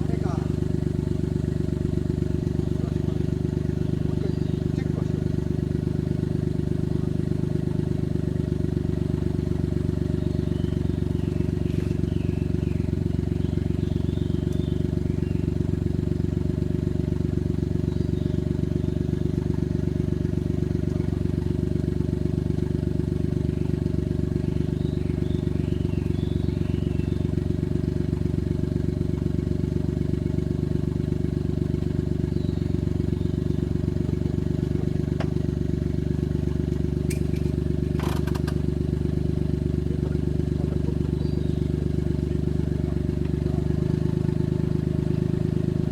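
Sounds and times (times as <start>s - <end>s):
vehicle engine idling: 0.0s - 45.9s.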